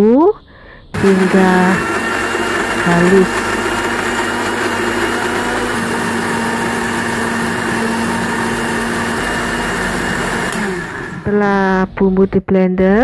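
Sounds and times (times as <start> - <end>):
electric blender running: 1.0 - 11.4.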